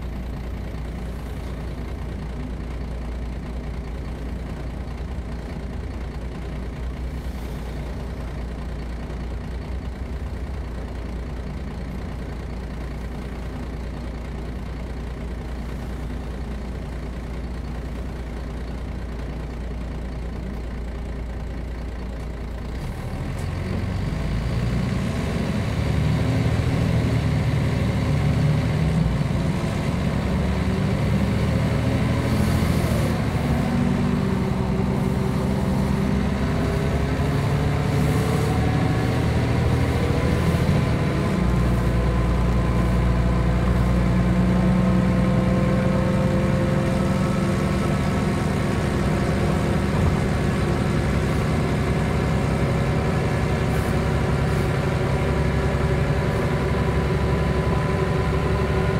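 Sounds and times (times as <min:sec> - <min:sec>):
bus diesel engine idling: 0:00.0 - 0:58.9.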